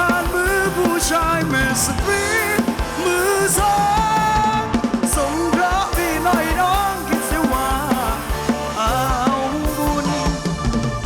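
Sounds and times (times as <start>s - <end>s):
live band playing: 0.0s - 11.0s
steady drum beat: 0.0s - 11.0s.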